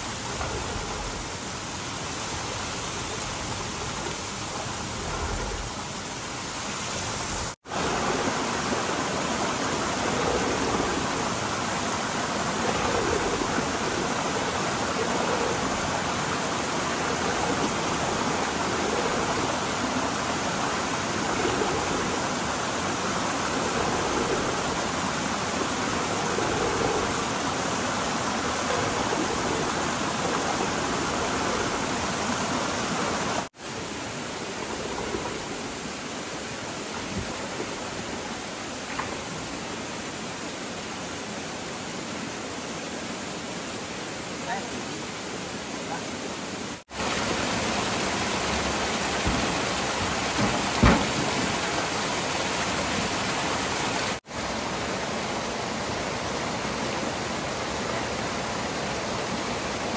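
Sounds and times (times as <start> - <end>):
flowing water: 0.0 - 59.9.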